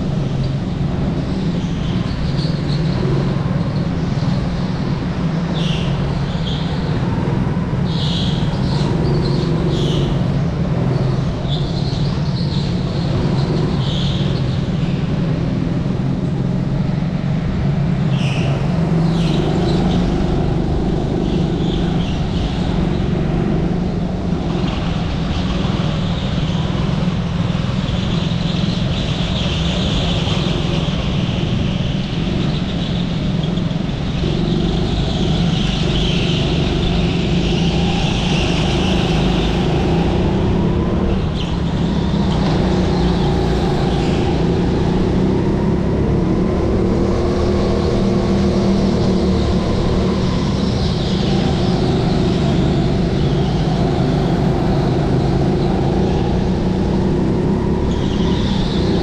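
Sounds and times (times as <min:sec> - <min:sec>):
kart engine drone: 0:00.0 - 0:59.0.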